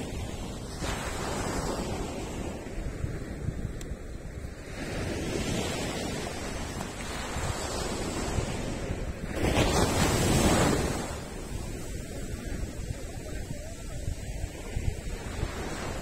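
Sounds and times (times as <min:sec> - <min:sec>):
small waves breaking on sand: 0:00.0 - 0:16.0.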